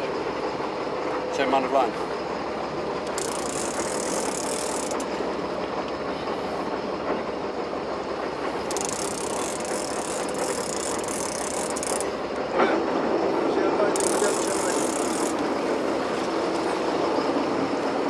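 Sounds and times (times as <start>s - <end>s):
boat engine rumble: 0.0s - 18.0s
water along the hull: 0.0s - 18.0s.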